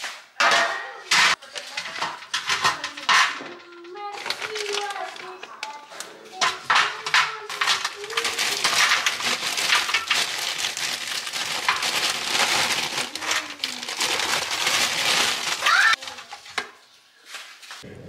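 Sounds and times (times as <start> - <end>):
plastic bag crinkling: 1.3 - 16.6.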